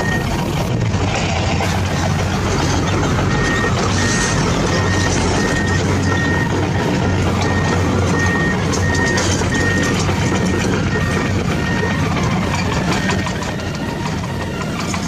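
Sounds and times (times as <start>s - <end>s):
reversing alarm beeping: 0.0s - 0.7s, 1.7s - 15.0s.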